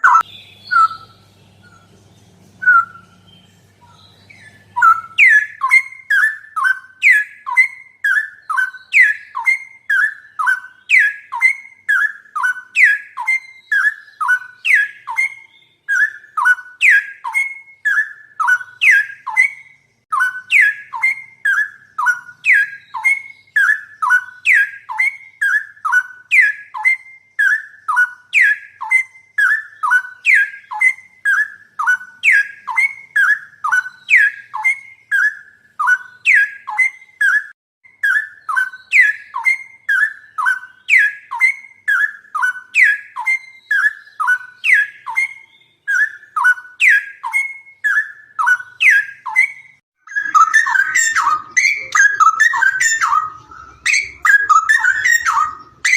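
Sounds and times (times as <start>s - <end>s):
songbird whistled call: 0.0s - 1.9s, 2.6s - 55.9s.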